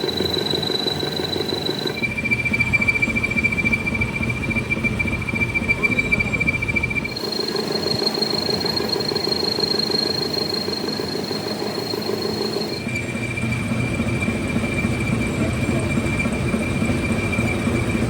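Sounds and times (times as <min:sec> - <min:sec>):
metalworking machinery whine and rumble: 0:00.0 - 0:18.0.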